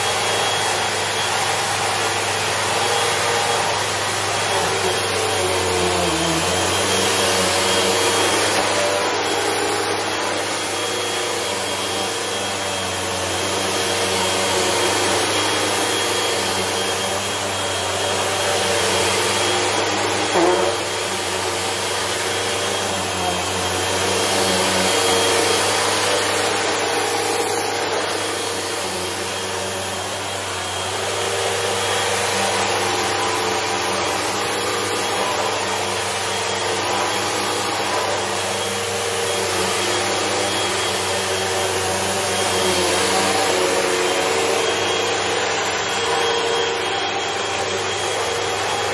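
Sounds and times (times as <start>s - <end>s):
vacuum cleaner running over rug: 0.0s - 48.9s.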